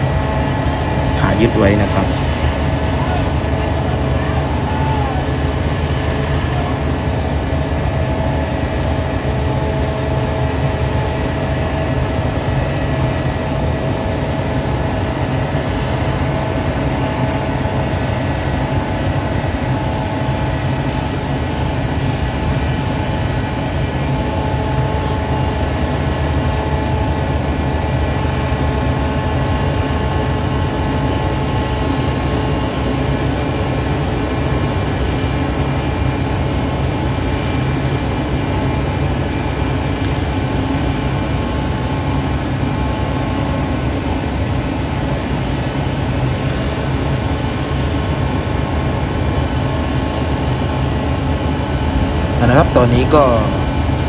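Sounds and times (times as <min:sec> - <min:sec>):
diesel engine rumbling: 0:00.0 - 0:54.0.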